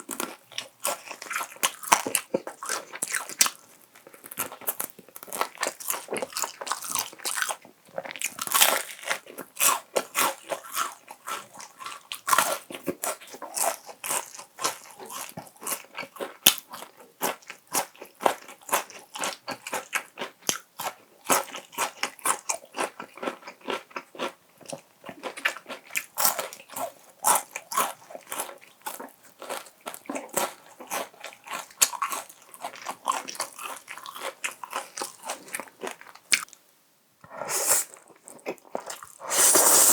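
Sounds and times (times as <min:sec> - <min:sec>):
crunchy chewing: 0:00.0 - 0:36.6, 0:37.5 - 0:39.9.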